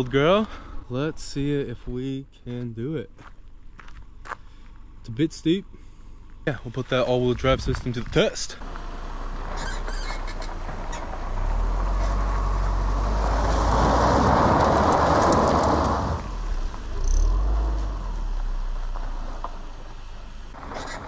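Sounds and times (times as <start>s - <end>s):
low engine rumble: 0.0s - 20.8s
tyres on loose dirt: 0.0s - 21.0s.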